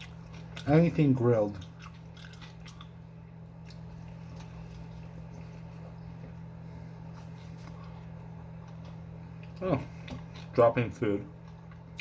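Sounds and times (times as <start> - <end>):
quiet chewing: 0.0 - 10.7, 11.3 - 12.0
steady low hum: 0.0 - 12.0.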